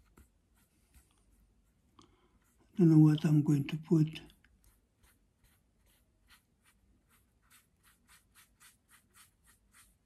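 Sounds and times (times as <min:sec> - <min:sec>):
paintbrush strokes: 0:00.0 - 0:10.0.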